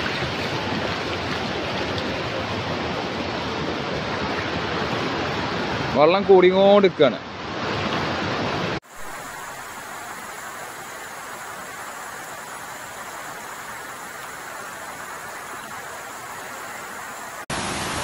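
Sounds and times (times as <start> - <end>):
deep rush of floodwater: 0.0 - 18.0
water rushing over rocks: 0.0 - 18.0.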